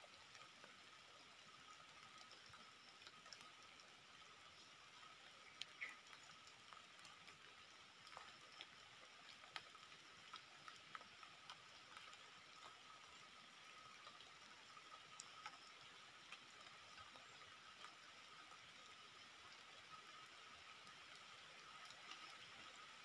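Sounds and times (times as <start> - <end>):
soft ticks and clicks: 0.0 - 23.0.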